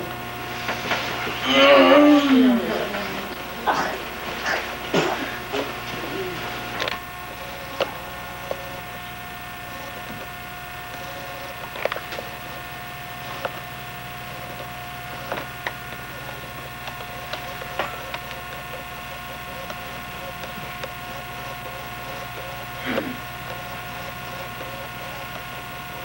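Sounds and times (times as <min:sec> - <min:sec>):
camcorder hum: 0:00.0 - 0:26.0.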